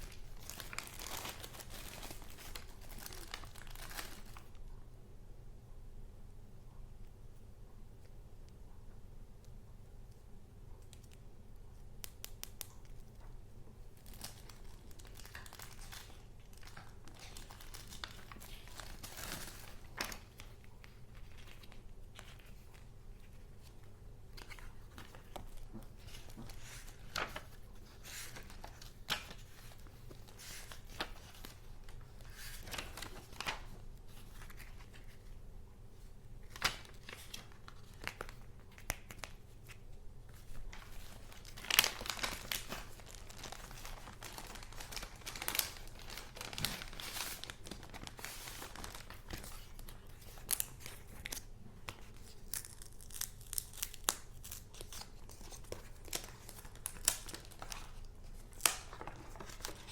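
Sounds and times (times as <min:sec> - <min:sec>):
paper rustling and crinkling: 0:00.0 - 0:04.6, 0:14.0 - 0:35.4, 0:36.0 - 0:59.9.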